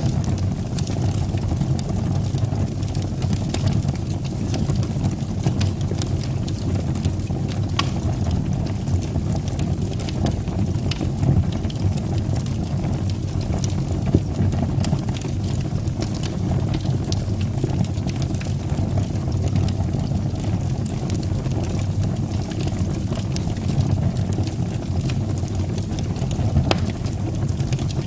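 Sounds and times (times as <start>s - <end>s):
fire crackling in a fireplace: 0.0s - 28.0s.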